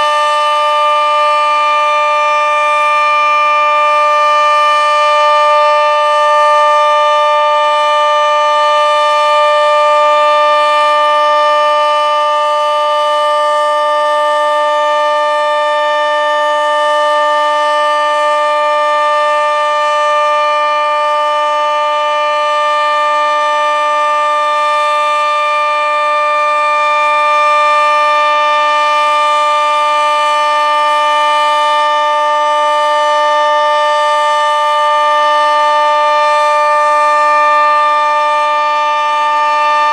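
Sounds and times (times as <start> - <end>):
warning siren steady chord: 0.0 - 39.9.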